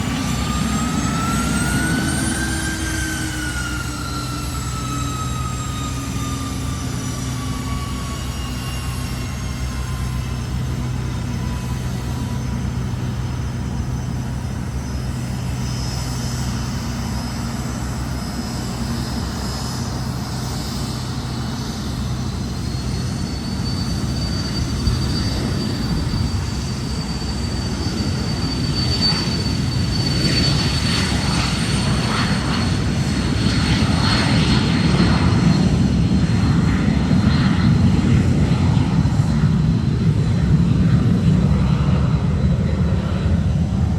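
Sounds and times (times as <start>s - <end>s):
deep jet engine noise: 0.0s - 43.9s
jet engine high whine: 0.0s - 43.9s.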